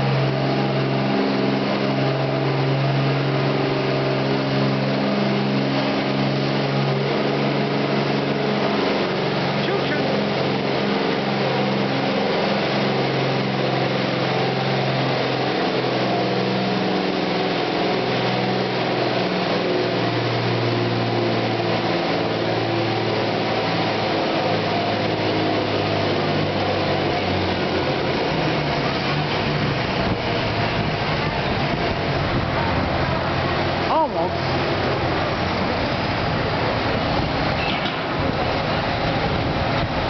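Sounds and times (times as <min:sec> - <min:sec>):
tractor engine running under load: 0:00.0 - 0:40.0.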